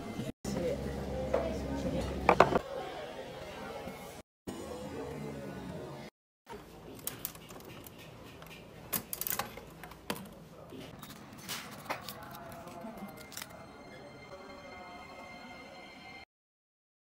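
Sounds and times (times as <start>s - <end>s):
faint music: 0.0s - 16.2s.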